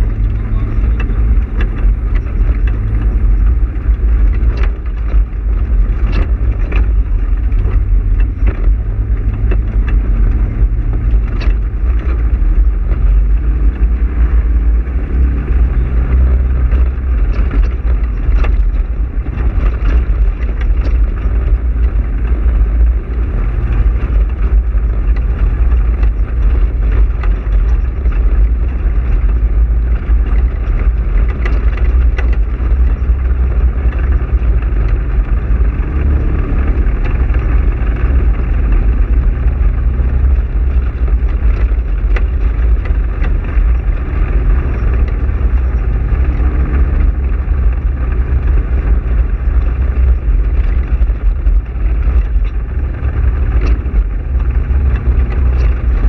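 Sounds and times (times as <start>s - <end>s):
knocks and rattles over rocks: 0.0s - 56.0s
off-road vehicle engine rumbling: 0.0s - 56.0s.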